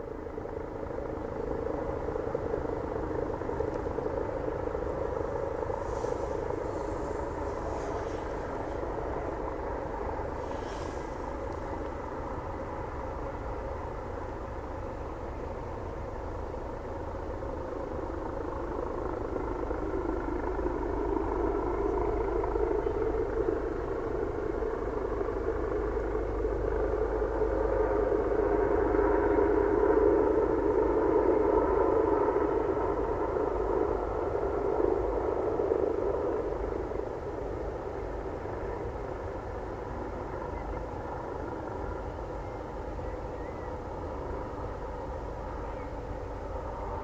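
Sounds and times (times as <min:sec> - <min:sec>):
helicopter rotor and turbine: 0:00.0 - 0:47.0.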